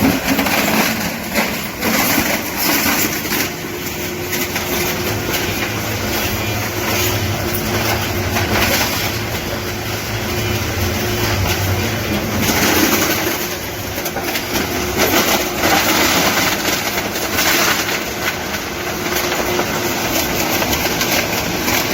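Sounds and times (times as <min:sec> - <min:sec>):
machinery noise: 0:00.0 - 0:21.9
steady low hum: 0:00.0 - 0:21.9.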